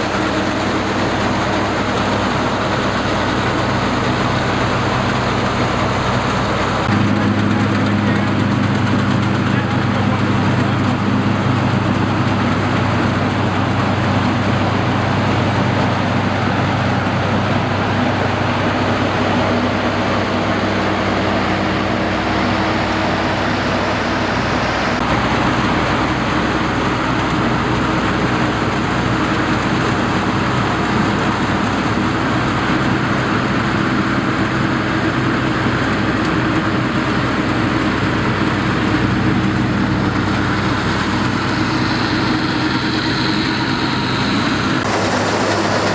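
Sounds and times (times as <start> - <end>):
broad rushing noise: 0.0 - 45.9
combine harvester engine drone: 0.0 - 45.9.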